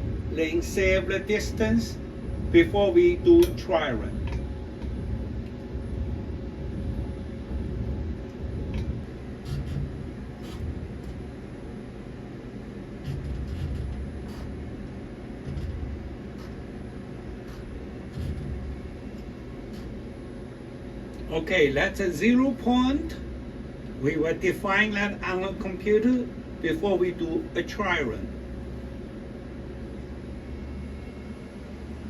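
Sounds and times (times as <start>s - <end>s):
low uneven machine rumble: 0.0s - 32.0s.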